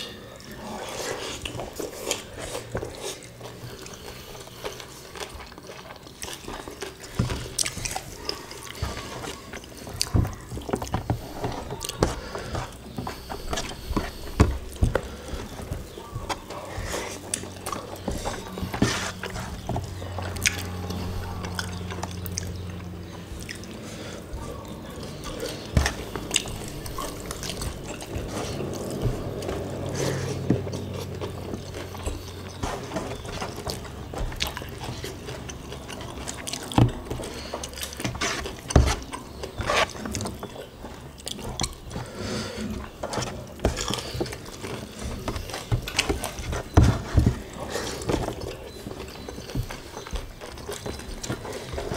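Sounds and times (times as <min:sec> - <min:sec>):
wet chewing and lip-smacking: 0:00.0 - 0:42.1, 0:47.4 - 0:51.9.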